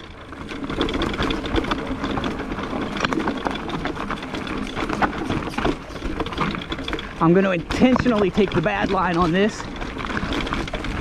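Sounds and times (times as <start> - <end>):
bike rattling: 0.0 - 11.0
tyres crunching over rocks: 0.0 - 11.0.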